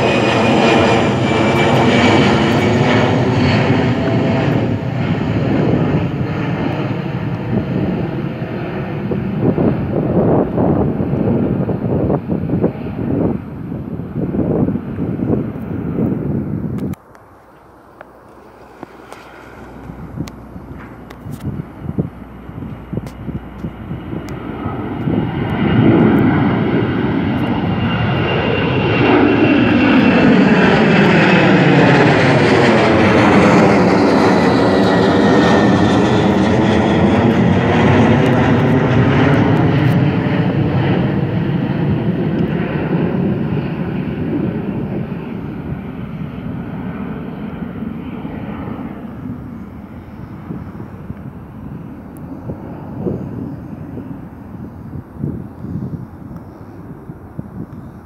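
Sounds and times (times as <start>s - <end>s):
jet airliner passing by: 0.0s - 58.0s.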